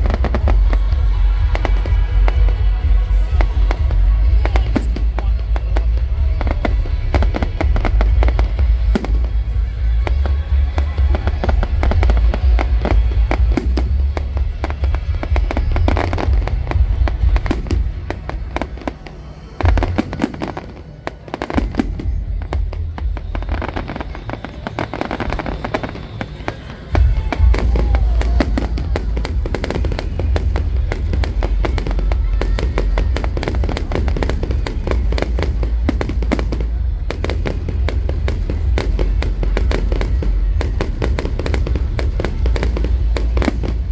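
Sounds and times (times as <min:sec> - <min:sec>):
deep rumble: 0:00.0 - 0:18.6, 0:27.0 - 0:43.9
fireworks crackling bangs and booms: 0:00.0 - 0:43.9.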